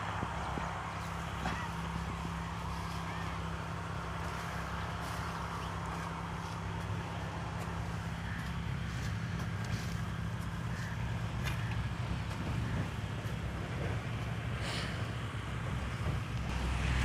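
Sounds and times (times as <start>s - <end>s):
small engine running: 0.1s - 17.0s.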